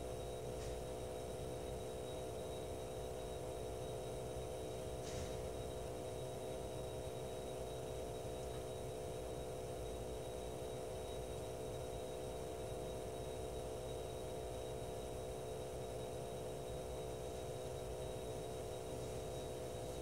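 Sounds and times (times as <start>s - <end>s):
air pump humming with high whine: 0.0s - 20.0s.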